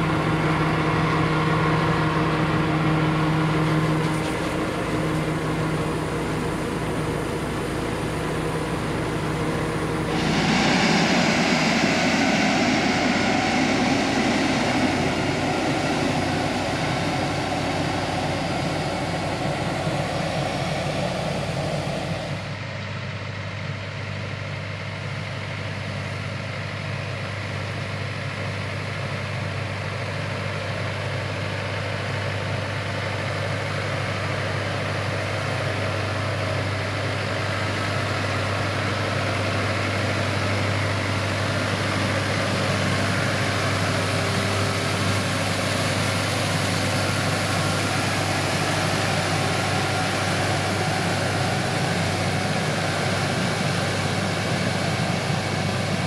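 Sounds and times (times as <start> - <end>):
tractor engine running: 0.0 - 23.2, 29.6 - 56.0.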